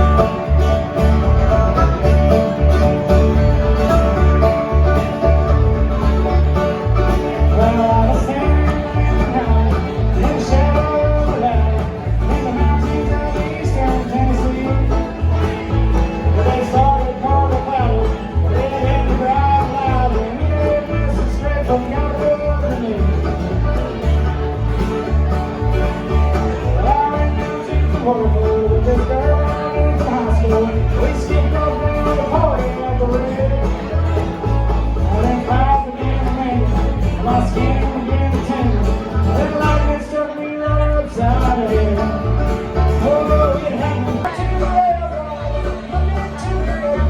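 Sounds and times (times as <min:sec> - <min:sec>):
bluegrass band playing: 0:00.0 - 0:47.0.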